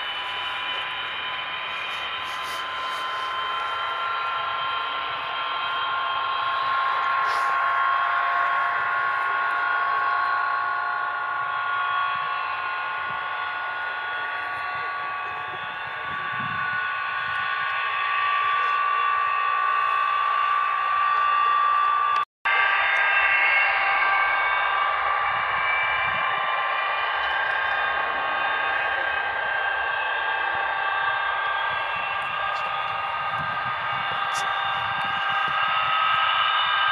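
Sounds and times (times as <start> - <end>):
jet engines whining: 0.0 - 36.9.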